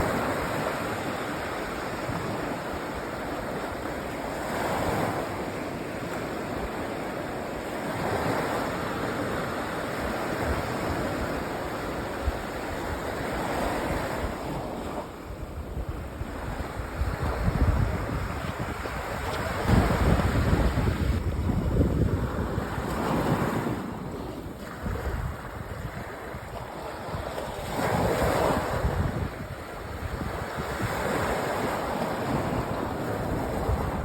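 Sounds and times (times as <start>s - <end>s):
waves washing onto sandy beach: 0.0s - 34.0s
wind buffeting microphone: 0.0s - 34.0s.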